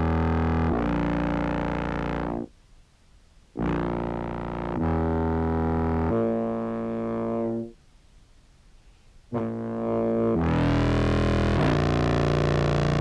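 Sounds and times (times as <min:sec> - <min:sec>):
filtered fuzz clarinet notes: 0:00.0 - 0:02.5, 0:03.6 - 0:07.8, 0:09.3 - 0:13.0.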